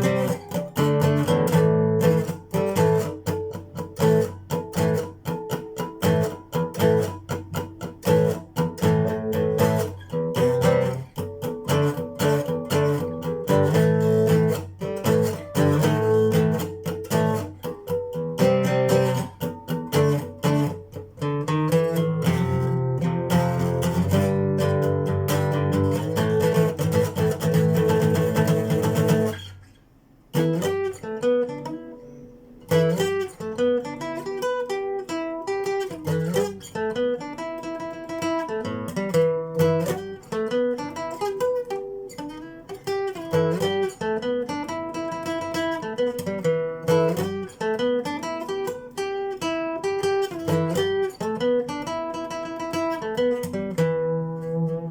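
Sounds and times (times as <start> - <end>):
acoustic guitar picked notes: 0.0 - 54.9
acoustic guitar strummed chords: 0.0 - 54.9.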